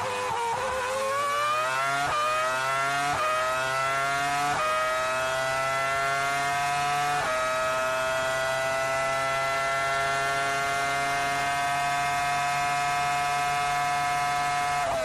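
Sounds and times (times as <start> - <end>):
racing car engine whining: 0.0 - 15.0.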